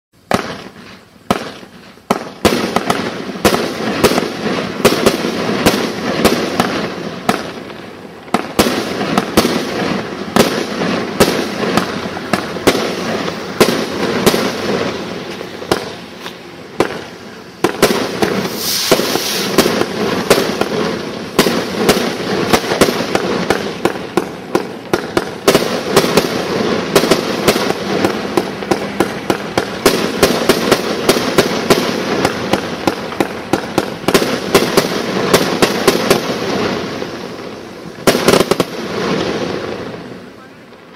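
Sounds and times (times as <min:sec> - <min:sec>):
fireworks barrage: 0:00.2 - 0:40.9.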